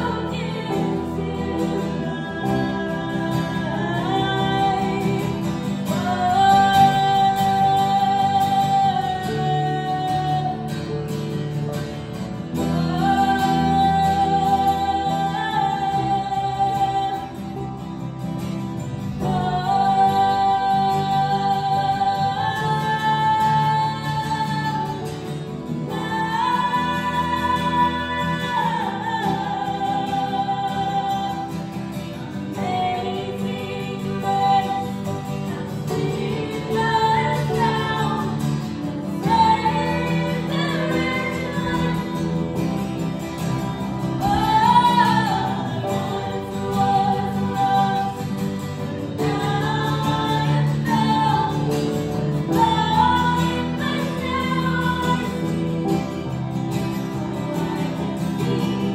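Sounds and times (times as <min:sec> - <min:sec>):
acoustic guitar: 0:00.0 - 0:58.9
live band accompaniment: 0:00.0 - 0:58.9.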